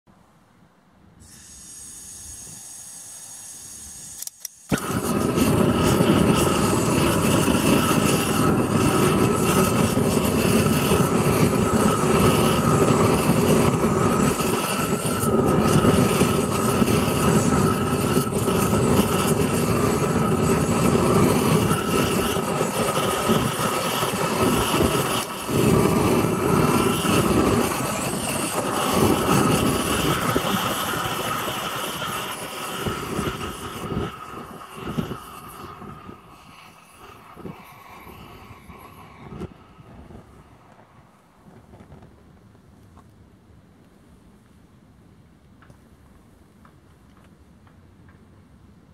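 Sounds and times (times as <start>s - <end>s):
fire hissing: 1.2s - 42.3s
loud rush of flame: 1.2s - 42.4s.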